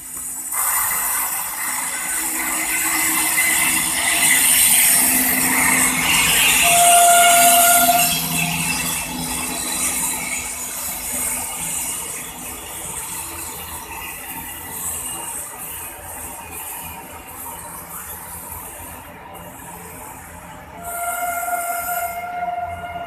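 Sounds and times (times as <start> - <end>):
train wheels clattering on rails: 0.0 - 23.0.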